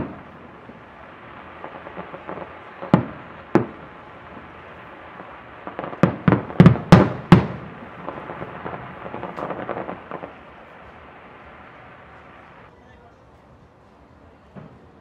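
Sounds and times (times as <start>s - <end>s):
fireworks bangs: 0.0s - 12.7s
fireworks pops and crackles: 0.0s - 12.7s, 14.4s - 15.0s.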